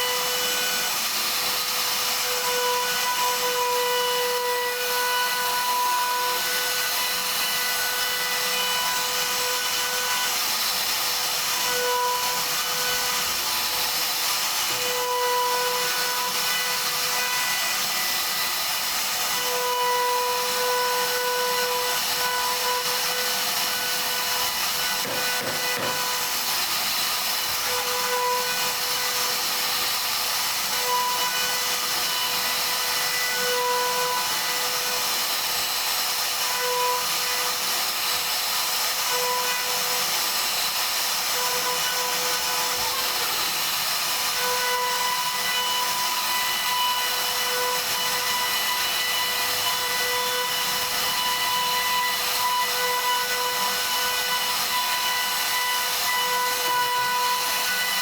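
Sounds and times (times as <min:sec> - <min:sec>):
router spindle whining while carving wood: 0:00.0 - 0:58.0.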